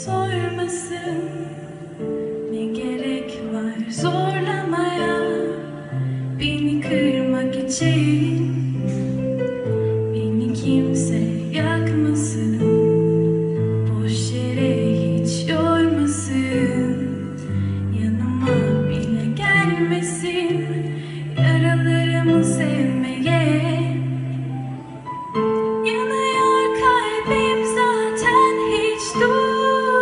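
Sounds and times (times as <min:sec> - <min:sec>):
woman singing: 0:00.0 - 0:08.9, 0:10.0 - 0:24.8, 0:25.6 - 0:30.0.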